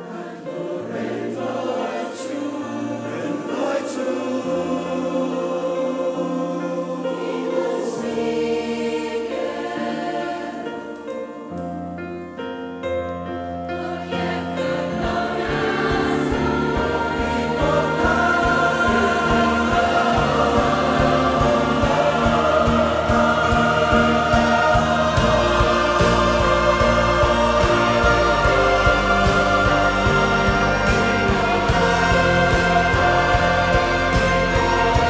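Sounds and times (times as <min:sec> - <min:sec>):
choir singing with band: 0:00.0 - 0:11.4, 0:13.7 - 0:35.0.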